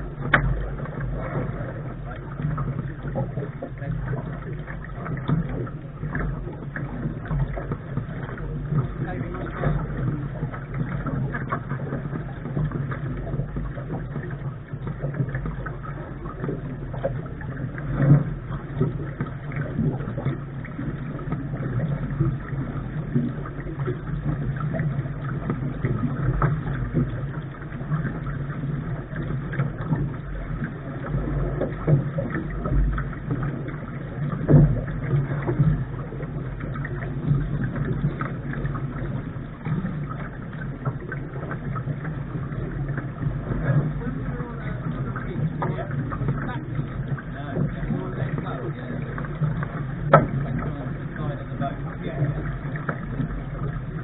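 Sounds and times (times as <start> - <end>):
water noise: 0.0 - 54.0
wind: 0.0 - 54.0.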